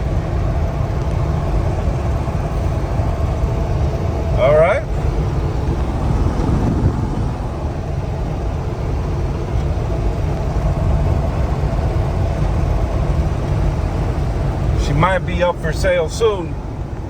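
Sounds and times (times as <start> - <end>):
car engine rumble from cabin: 0.0 - 17.0
tyre and wind noise: 0.8 - 14.8.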